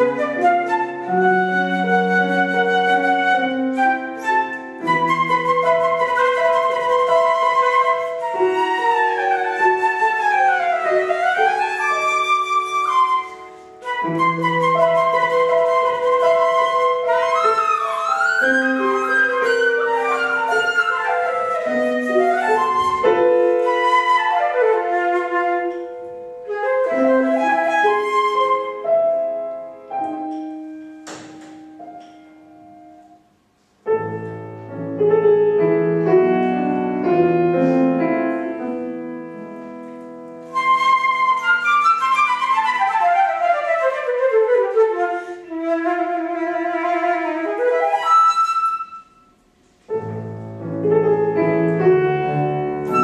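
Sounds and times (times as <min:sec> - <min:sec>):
flute melody: 0:00.0 - 0:53.0
grand piano: 0:00.0 - 0:53.0.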